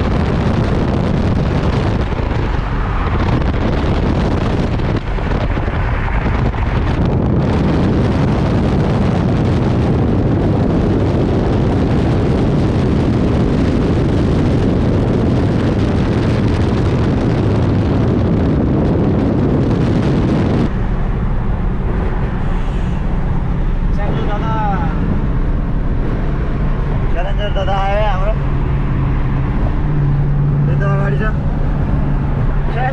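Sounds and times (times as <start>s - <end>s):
car engine and road rumble: 0.0s - 32.9s
wind noise on microphone: 0.0s - 32.9s.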